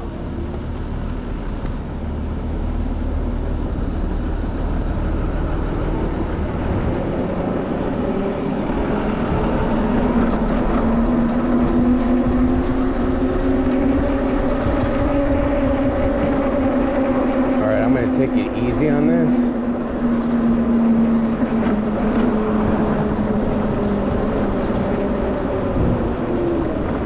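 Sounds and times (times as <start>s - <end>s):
road and wind rumble: 0.0s - 27.0s
vehicle droning tone: 0.0s - 27.0s.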